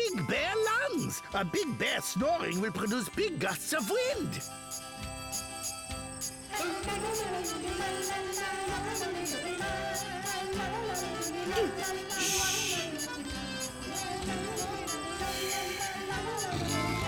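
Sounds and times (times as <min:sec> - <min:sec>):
cartoon background music: 0:00.0 - 0:17.0.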